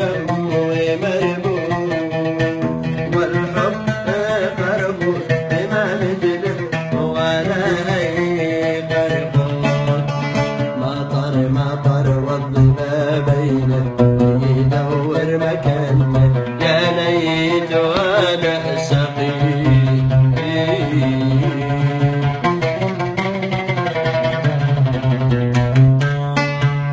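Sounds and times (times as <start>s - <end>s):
plucked-string melody: 0.0s - 26.9s.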